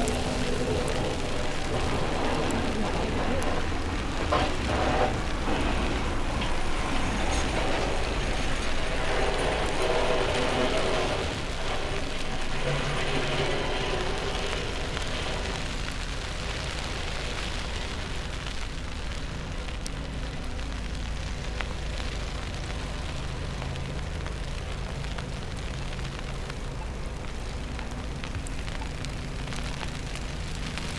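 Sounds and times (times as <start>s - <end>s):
city street rumble: 0.0s - 30.9s.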